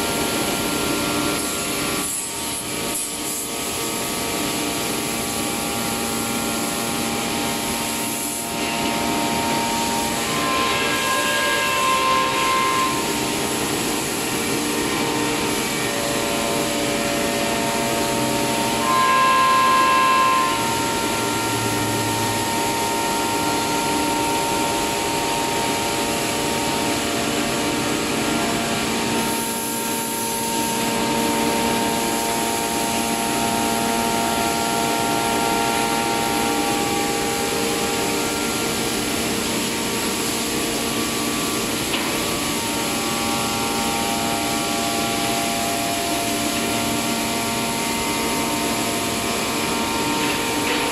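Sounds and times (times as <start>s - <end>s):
wood router cutting wood: 5.0s - 50.9s.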